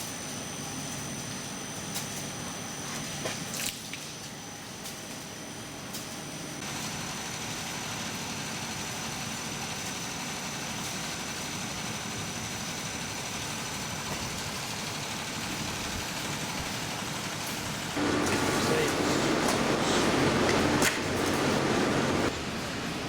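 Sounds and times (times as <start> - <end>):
steady mechanical drone: 0.0 - 23.0.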